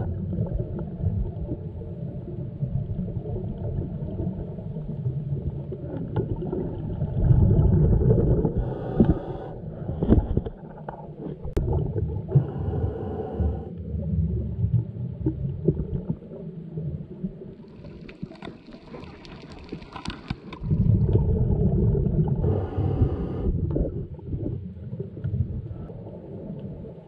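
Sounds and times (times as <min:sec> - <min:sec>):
muffled underwater rumble: 0:00.0 - 0:27.0
regulator bubbles gurgling: 0:00.0 - 0:27.0.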